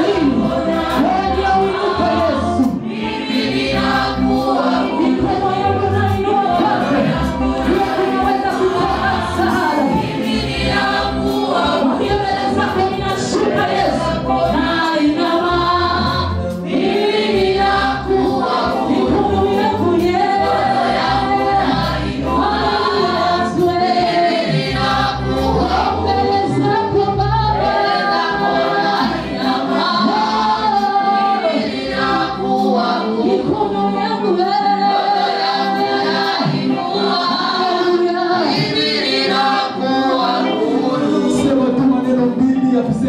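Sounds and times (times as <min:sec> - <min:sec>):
choir singing gospel: 0:00.0 - 0:43.0.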